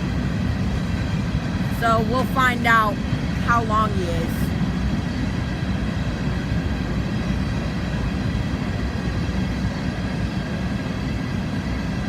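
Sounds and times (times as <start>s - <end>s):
steel train wheels on rail: 0.0s - 12.0s.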